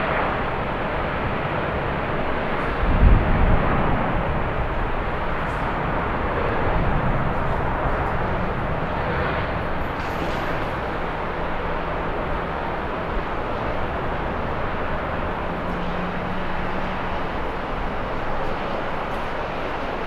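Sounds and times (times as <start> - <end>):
jet airliner engine: 0.0 - 20.0
wind buffeting microphone: 0.0 - 20.0.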